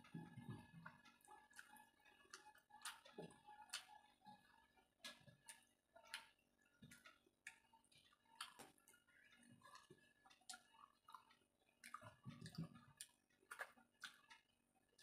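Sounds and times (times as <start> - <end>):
fingers mixing wet rice: 0.0 - 15.0.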